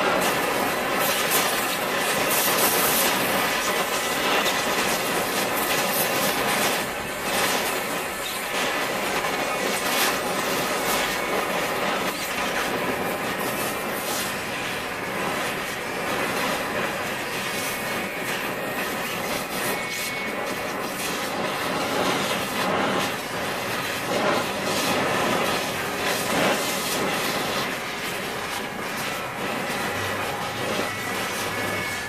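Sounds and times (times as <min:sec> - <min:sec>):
cutting torch flame hissing: 0:00.0 - 0:32.0.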